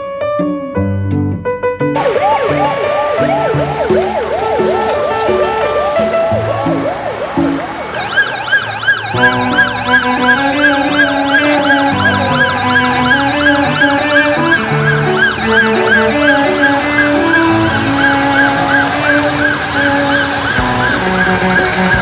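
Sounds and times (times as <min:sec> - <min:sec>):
siren yelping: 0:02.0 - 0:22.0.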